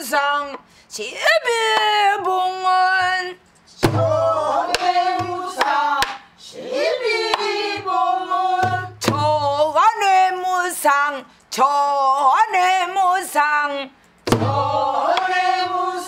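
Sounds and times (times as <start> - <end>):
woman singing: 0.0 - 6.2, 7.3 - 16.0.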